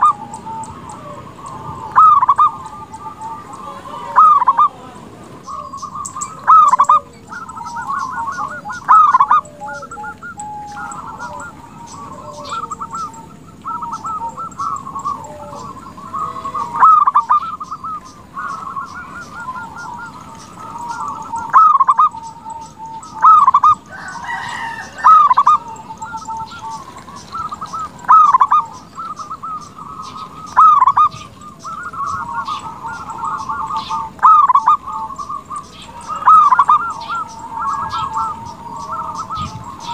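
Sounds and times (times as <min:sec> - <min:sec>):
dove cooing with trills: 0:00.0 - 0:39.9.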